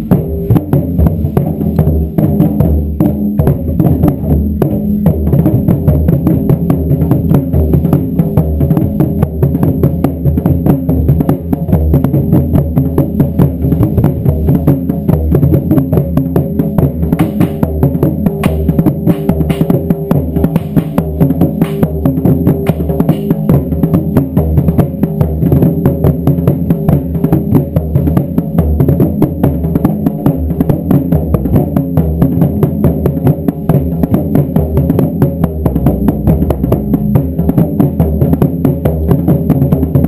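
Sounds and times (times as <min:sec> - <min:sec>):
taiko drum ensemble: 0:00.0 - 0:40.0.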